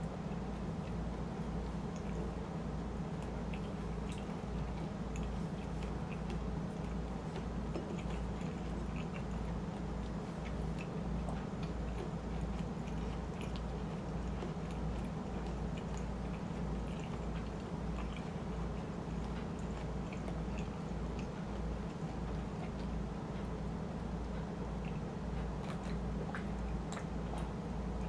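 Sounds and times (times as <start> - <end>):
steady low hum: 0.0 - 28.0
wet chewing mouth clicks: 3.1 - 23.0, 24.8 - 28.0.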